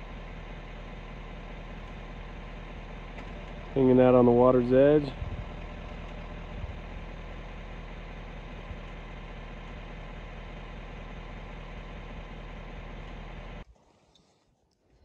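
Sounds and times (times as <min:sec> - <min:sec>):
vehicle engine idling: 0:00.0 - 0:13.7.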